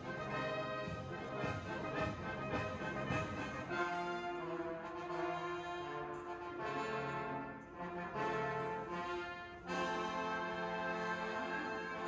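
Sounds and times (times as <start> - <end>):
military brass band playing chords: 0.0 - 12.0.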